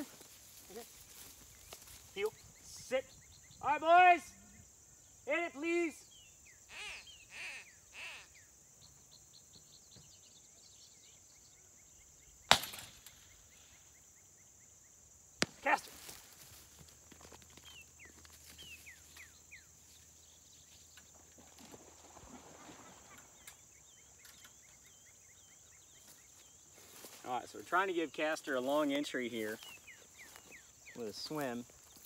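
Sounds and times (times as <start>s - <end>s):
birds chirping: 0.0s - 32.0s
insects buzzing: 0.0s - 32.0s.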